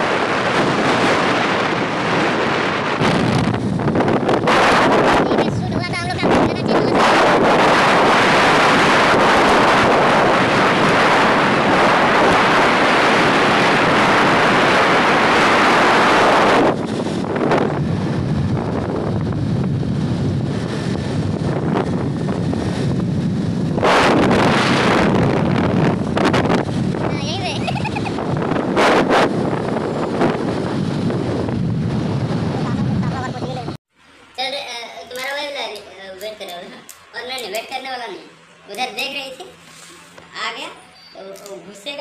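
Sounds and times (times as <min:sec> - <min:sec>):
wind buffeting microphone: 0:00.0 - 0:33.8.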